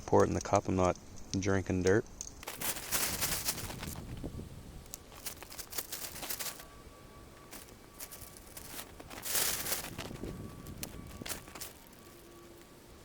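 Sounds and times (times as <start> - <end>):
rustling and crinkling: 2.3 - 13.0.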